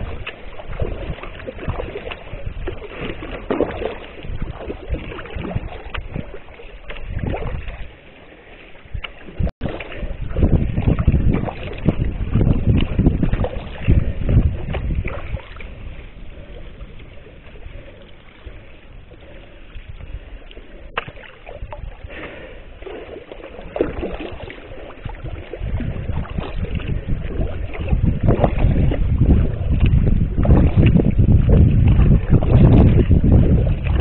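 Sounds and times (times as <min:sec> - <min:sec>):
wind buffeting microphone: 0:00.0 - 0:08.1, 0:08.7 - 0:34.0
paddle strokes in water: 0:00.0 - 0:34.0.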